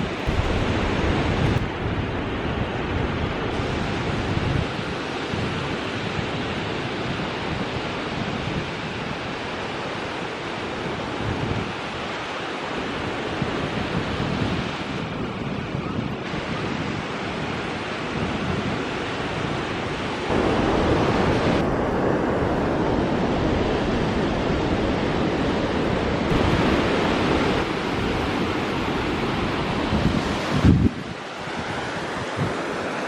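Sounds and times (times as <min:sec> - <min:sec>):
ocean waves on sandy beach: 0:00.0 - 0:33.0
wind on microphone: 0:00.0 - 0:33.0.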